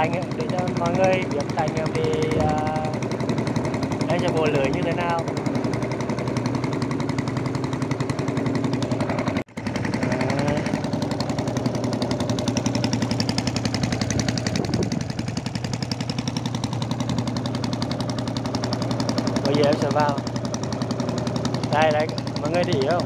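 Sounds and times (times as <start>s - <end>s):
small boat engine chugging: 0.0s - 23.0s.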